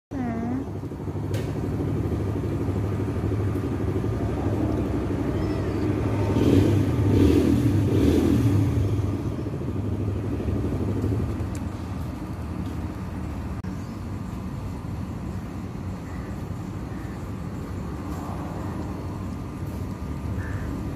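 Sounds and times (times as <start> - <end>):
vehicle engine rumbling: 0.1 - 20.9.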